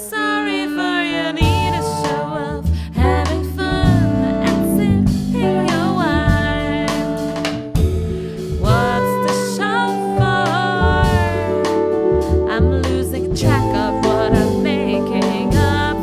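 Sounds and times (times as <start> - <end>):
person singing: 0.0 - 7.6, 8.2 - 16.0
low accompaniment: 1.2 - 16.0
drum kit: 1.4 - 16.0.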